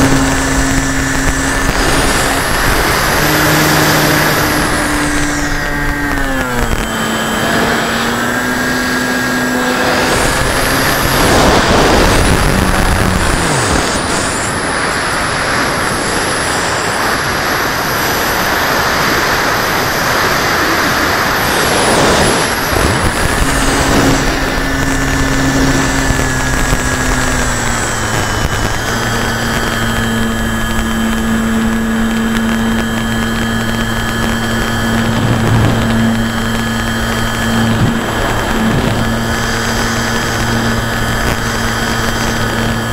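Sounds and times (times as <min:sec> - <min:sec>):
model airplane motor whine: 0:00.0 - 0:42.9
rushing air noise: 0:00.0 - 0:42.9.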